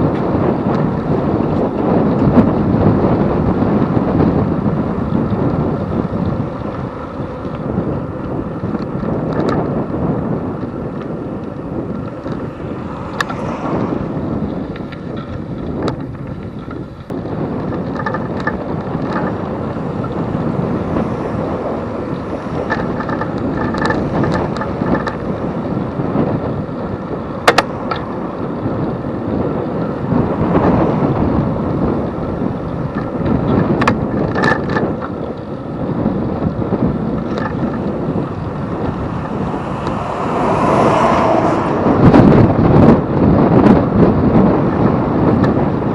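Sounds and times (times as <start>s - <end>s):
bike clicks and rattles: 0.0s - 40.0s, 42.2s - 45.9s
wind rushing over microphone: 0.0s - 45.9s.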